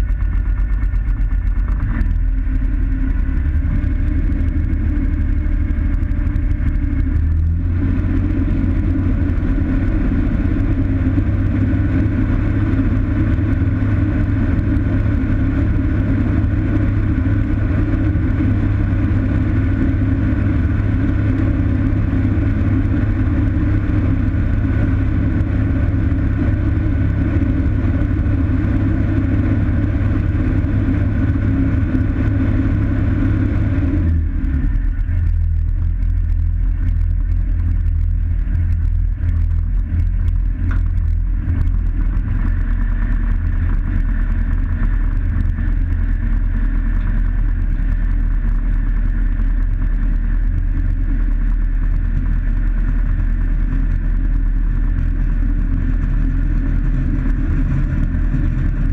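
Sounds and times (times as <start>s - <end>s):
light aircraft engine and propeller: 0.0s - 58.9s.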